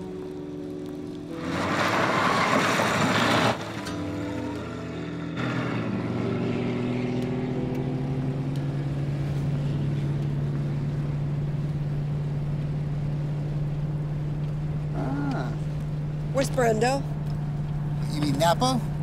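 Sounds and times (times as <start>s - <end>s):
car engine drone: 0.0s - 19.0s
road noise: 0.0s - 19.0s.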